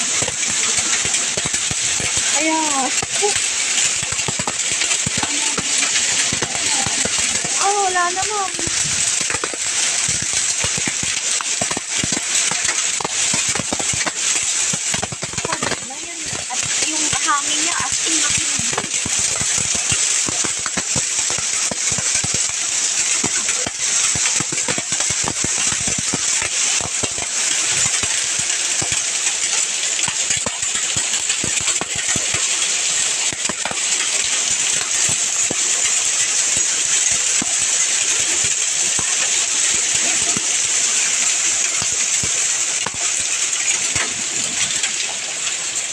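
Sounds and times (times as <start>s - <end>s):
hailstones striking hard surfaces: 0.0s - 45.9s
heavy rain hiss: 0.0s - 45.9s.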